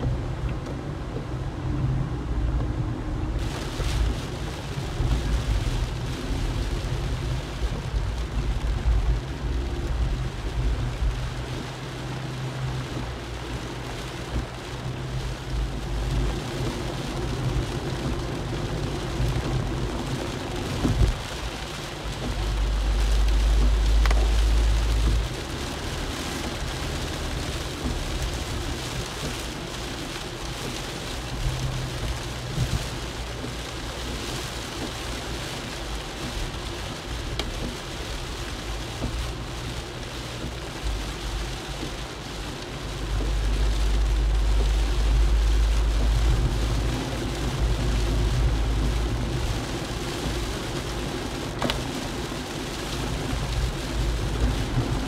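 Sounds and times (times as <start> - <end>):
car and tyres rumbling on wet road: 0.0 - 55.0
rain hissing on a car: 0.0 - 55.0.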